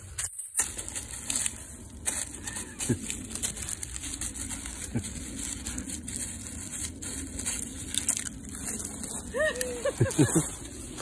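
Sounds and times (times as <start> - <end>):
dry leaves rustling: 0.0 - 11.0
low rumble: 0.0 - 11.0.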